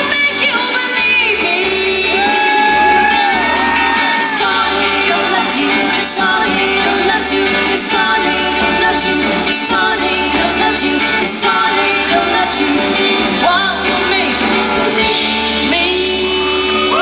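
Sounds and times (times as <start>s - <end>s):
guitar: 0.0s - 17.0s
live rock band playing: 0.0s - 17.0s
woman singing: 0.0s - 17.0s.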